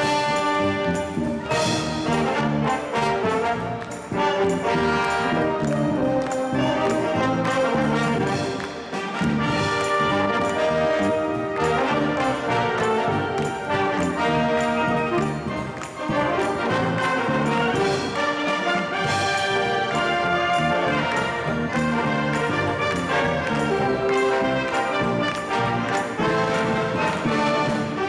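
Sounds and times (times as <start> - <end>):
drum kit: 0.0 - 28.0
wind band playing: 0.0 - 28.0.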